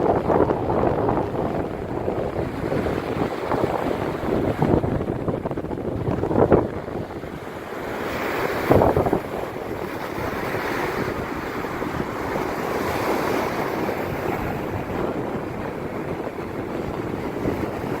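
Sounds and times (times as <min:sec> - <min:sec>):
ocean surf washing onto shore: 0:00.0 - 0:18.0
wind rumbling on microphone: 0:00.0 - 0:18.0.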